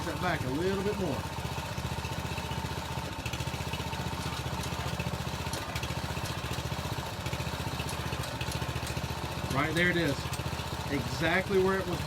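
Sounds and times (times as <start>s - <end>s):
small engine pulsing: 0.0s - 12.0s.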